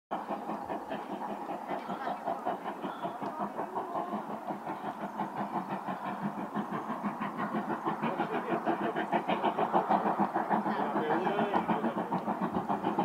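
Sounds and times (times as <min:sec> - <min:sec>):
steam locomotive chuffing: 0:00.1 - 0:13.0.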